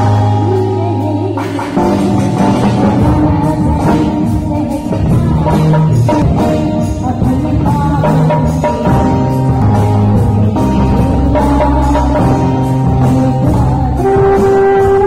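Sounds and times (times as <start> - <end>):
drum kit: 0.0 - 15.0
keyboard: 0.0 - 15.0
woman singing into a microphone: 0.0 - 15.0.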